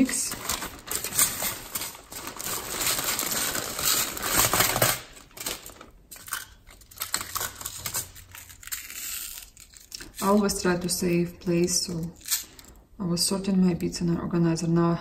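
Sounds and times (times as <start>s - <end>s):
plastic packets rustling and clicking: 0.0s - 11.2s, 11.9s - 12.8s
plastic bag crinkling: 0.0s - 12.8s.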